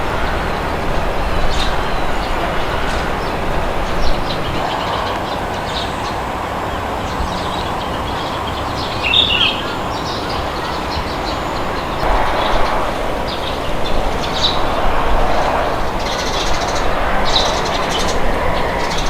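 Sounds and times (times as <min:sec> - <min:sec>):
wind rushing: 0:00.0 - 0:08.8, 0:09.8 - 0:19.0
loud bird call: 0:00.0 - 0:19.0
small birds chirping: 0:00.0 - 0:19.0.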